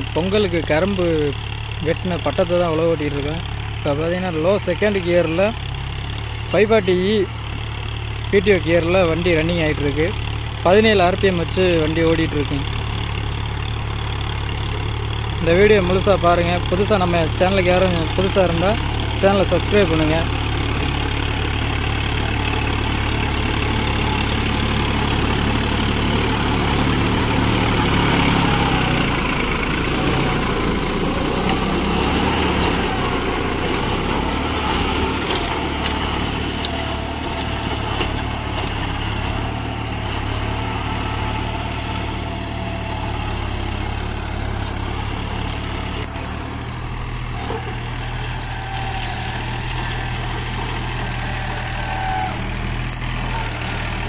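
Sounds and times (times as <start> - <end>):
tractor diesel engine under load: 0.0 - 54.0
rotavator tines churning soil: 7.3 - 54.0.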